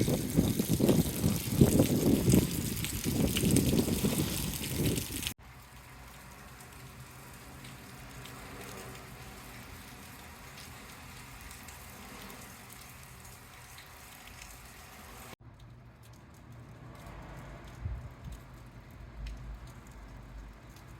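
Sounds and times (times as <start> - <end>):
faint ticks of raindrops: 0.0 - 20.9
steady rain falling: 0.0 - 20.9.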